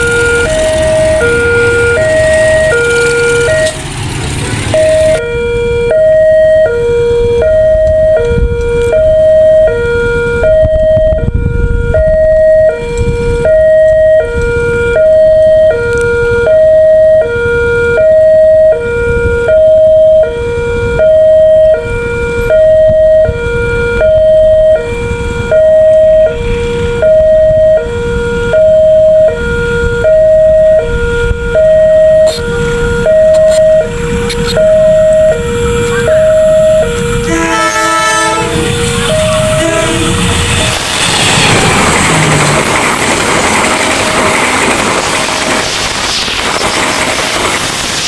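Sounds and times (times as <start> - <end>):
two-tone warning siren wailing: 0.0 - 48.0.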